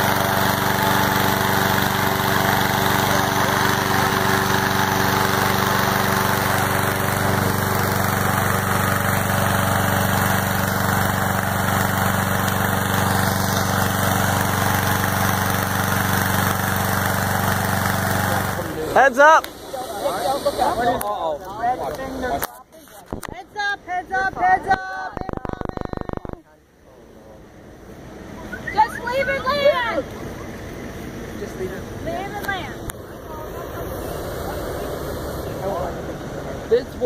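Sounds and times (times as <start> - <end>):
engine-driven fan running: 0.0 - 22.5, 24.1 - 37.0.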